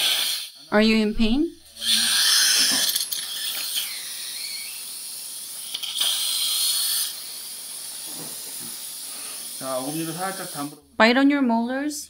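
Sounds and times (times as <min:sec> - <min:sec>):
dental suction tip hissing: 0:00.0 - 0:10.8.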